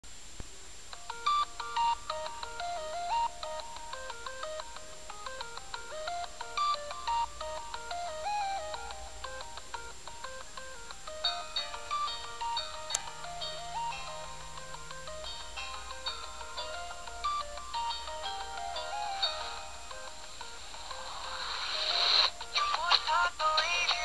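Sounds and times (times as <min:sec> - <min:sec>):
steady high whine: 0:00.1 - 0:24.0
chiptune beeping melody: 0:01.0 - 0:21.3.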